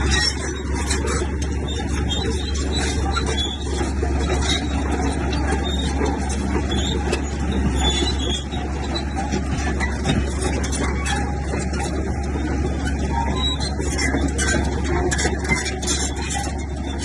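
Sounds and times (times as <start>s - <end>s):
diesel machinery engine drone: 0.0s - 17.0s
short high squeaks: 0.0s - 17.0s.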